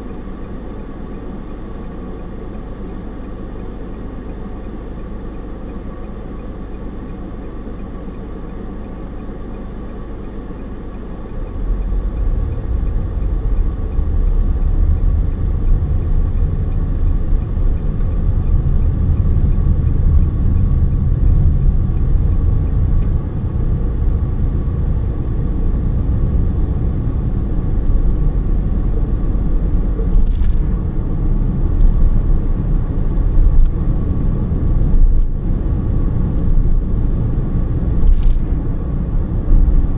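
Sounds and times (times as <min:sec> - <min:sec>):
car interior road noise: 0:00.0 - 0:39.9.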